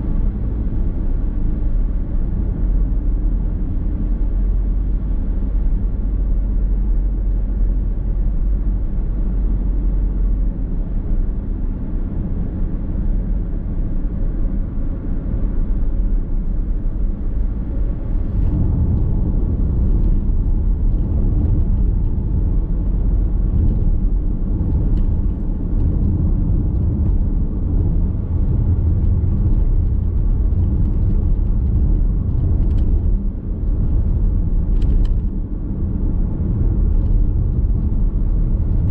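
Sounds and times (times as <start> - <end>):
road and engine rumble in car: 0.0 - 38.9.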